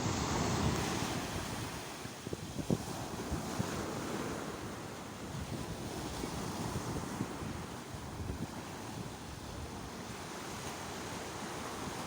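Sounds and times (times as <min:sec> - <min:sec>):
sea waves washing ashore: 0:00.0 - 0:12.0
wind rumbling on microphone: 0:00.0 - 0:12.0.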